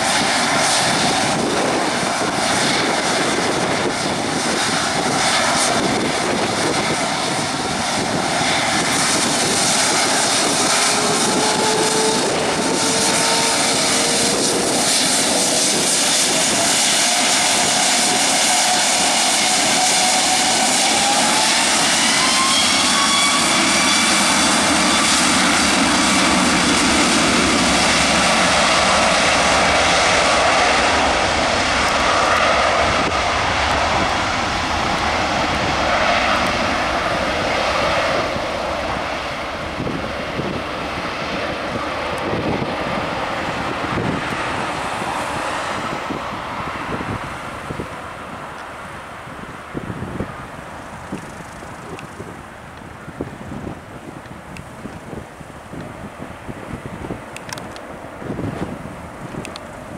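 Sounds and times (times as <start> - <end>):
jet engines spooling up: 0.0 - 59.9.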